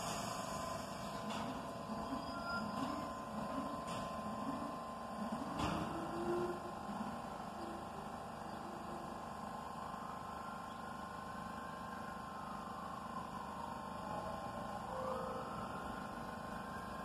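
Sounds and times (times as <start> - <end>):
train electrical hum: 0.0 - 17.0.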